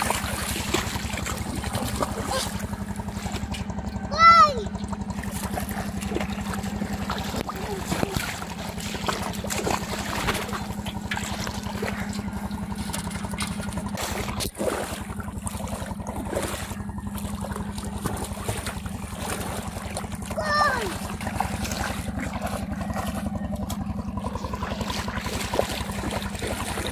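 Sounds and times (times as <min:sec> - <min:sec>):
engine droning: 0:00.0 - 0:26.9
water splashing: 0:00.0 - 0:26.9.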